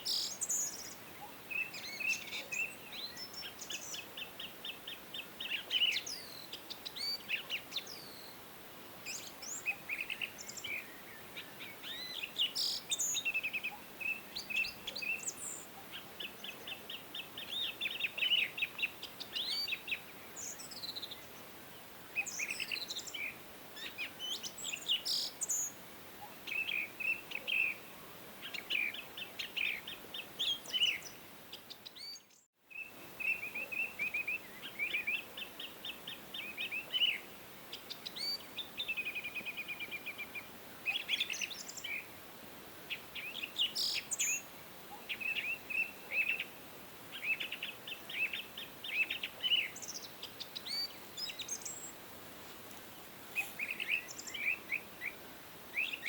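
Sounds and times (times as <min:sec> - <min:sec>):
songbirds singing and chirping: 0:00.0 - 0:42.2, 0:42.8 - 0:56.0
faint background hiss: 0:00.0 - 0:56.0.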